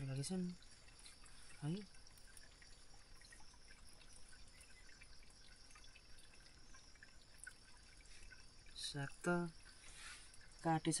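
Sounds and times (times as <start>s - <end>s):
faint trickling water: 0.0s - 11.0s
small ticks: 0.2s - 11.0s.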